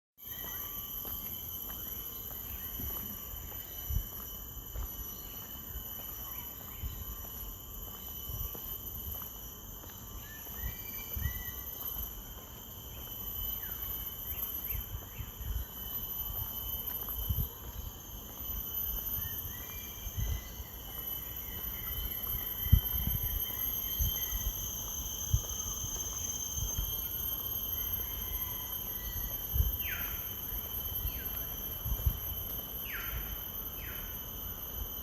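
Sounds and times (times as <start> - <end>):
insects droning: 0.2 - 35.0.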